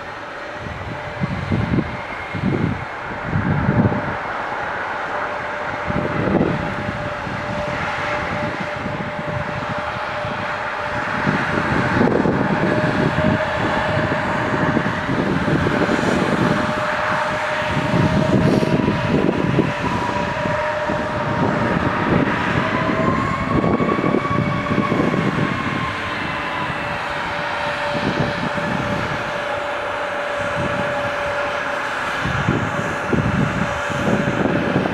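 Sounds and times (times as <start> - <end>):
jet engines roaring with whine: 0.0 - 34.9.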